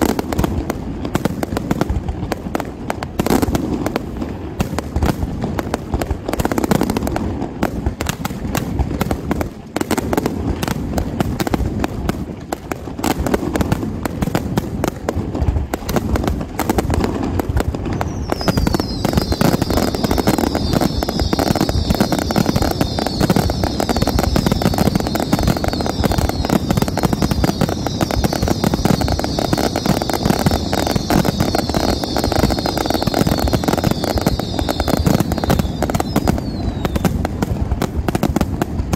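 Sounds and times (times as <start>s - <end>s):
firework bangs and crackles: 0.0s - 38.9s.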